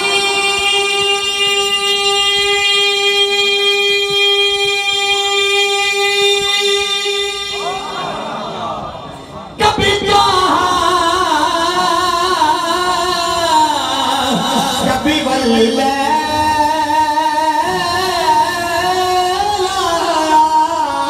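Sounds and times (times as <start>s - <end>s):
man singing over loudspeaker: 0.0s - 21.0s.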